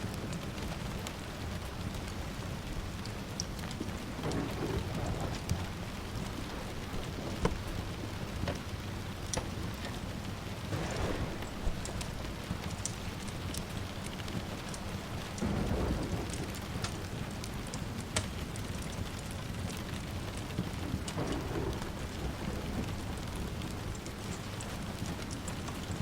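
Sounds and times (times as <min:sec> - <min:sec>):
steady rain: 0:00.0 - 0:26.0
distant thunder rumbling: 0:00.1 - 0:26.0.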